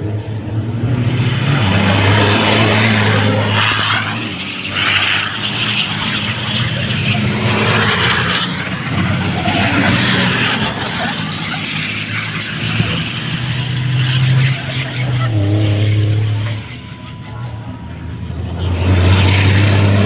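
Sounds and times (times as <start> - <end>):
racing truck engines passing: 0.0 - 20.0.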